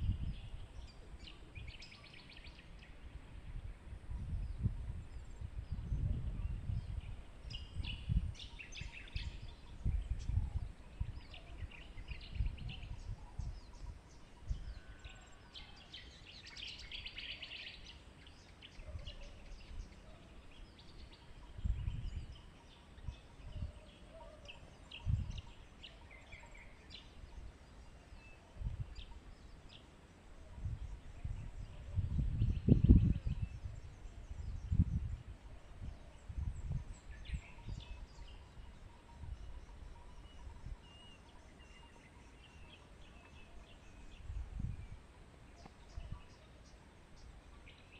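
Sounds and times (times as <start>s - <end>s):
small birds chirping: 4.2s - 47.9s.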